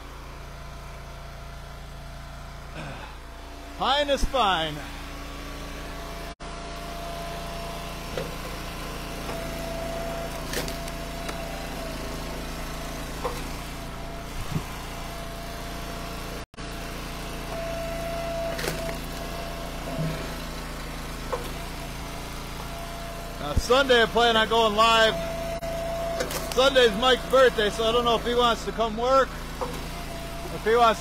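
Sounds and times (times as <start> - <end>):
log splitter engine running: 0.0 - 31.0.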